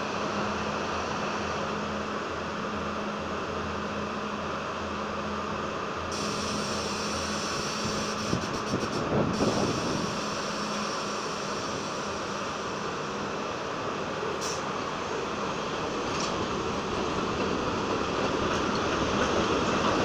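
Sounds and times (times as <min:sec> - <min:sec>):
subway train humming: 0:00.0 - 0:20.0.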